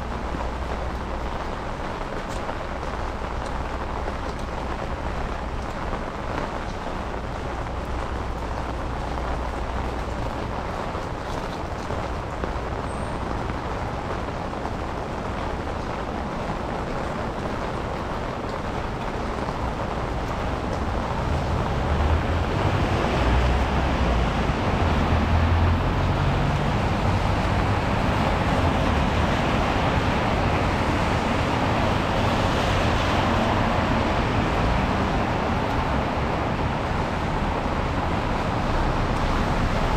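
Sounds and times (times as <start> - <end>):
low rumble of heavy traffic: 0.0 - 39.9
tyres on wet street: 0.0 - 39.9.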